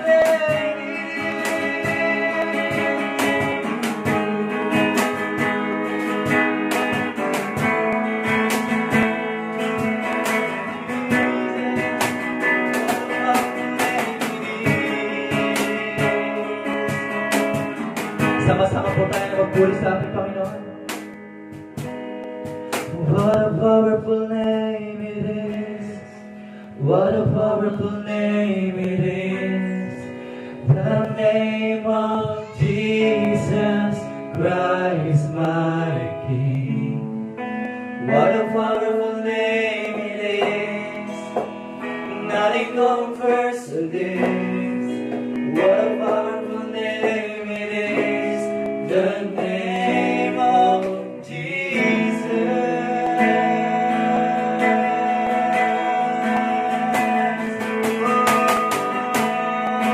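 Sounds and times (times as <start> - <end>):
man singing: 0.0 - 21.1, 21.7 - 59.9
electric guitar: 0.0 - 59.9.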